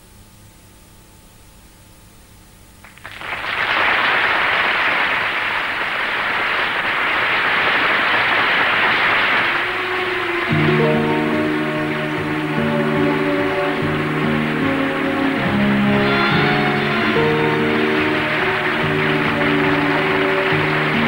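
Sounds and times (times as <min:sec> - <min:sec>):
audience applauding: 0:02.8 - 0:21.0.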